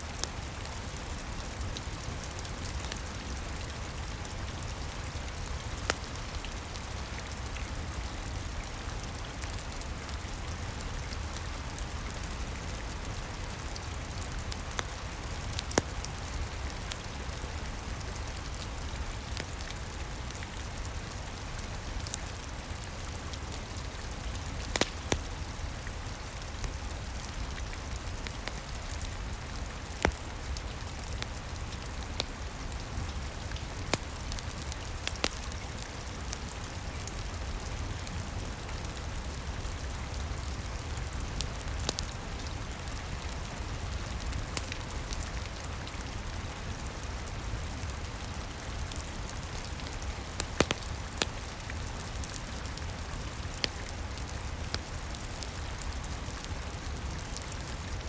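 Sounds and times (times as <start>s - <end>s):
steady rain: 0.0s - 58.0s
wood fire crackling: 0.2s - 58.0s.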